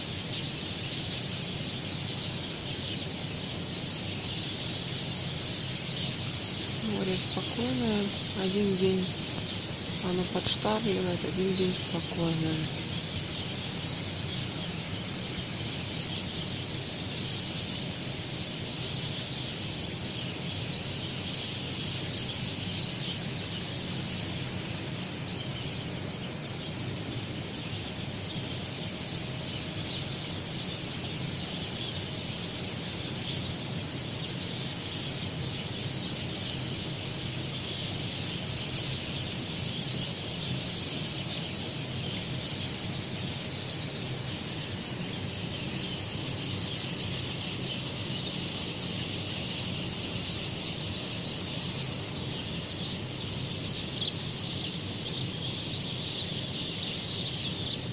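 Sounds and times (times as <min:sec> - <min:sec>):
low background hiss: 0:00.0 - 0:57.9
small birds chirping: 0:00.0 - 0:57.9.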